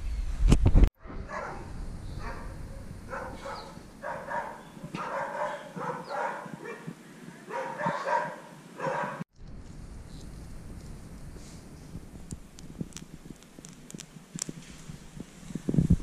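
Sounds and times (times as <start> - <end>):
handling or wind rumble: 0.0 - 8.0, 9.3 - 16.0.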